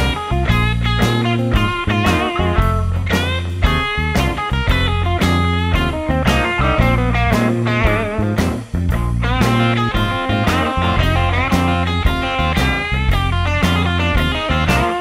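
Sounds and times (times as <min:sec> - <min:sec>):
guitar-led rock music: 0:00.0 - 0:15.0.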